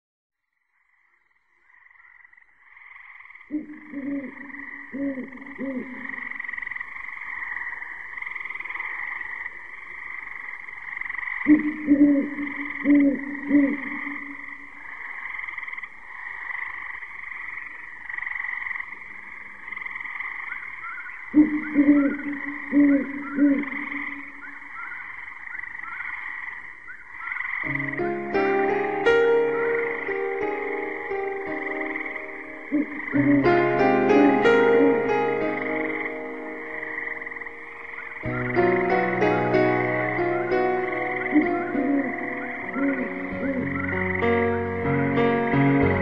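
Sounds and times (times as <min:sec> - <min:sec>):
deep frog croaking: 0:00.6 - 0:46.0
chorus of frogs calling: 0:00.8 - 0:46.0.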